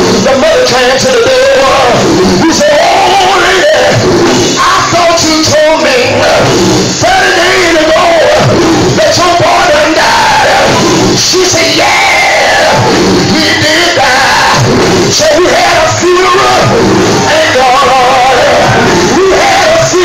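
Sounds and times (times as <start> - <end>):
congregation singing and calling out: 0.0 - 20.0
gospel band playing: 0.0 - 20.0
person singing lead: 0.0 - 20.0.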